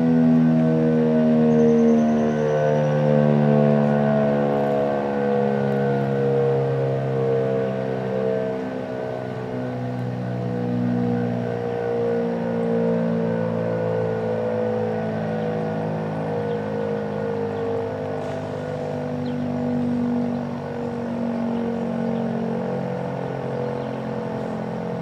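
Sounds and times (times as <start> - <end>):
outdoor warning siren: 0.0 - 25.0.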